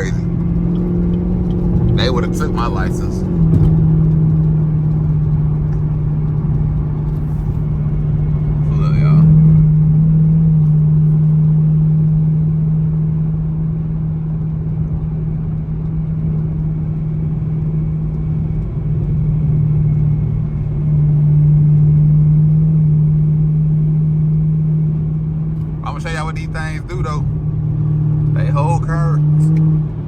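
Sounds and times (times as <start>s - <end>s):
engine droning: 0.0s - 30.0s.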